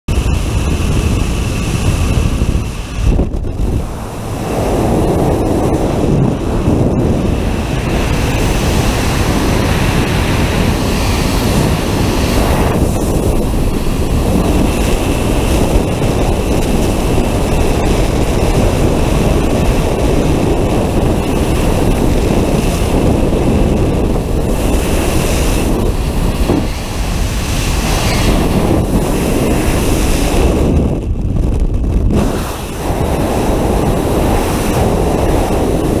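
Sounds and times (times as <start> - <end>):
wind buffeting microphone: 0.1 - 36.0.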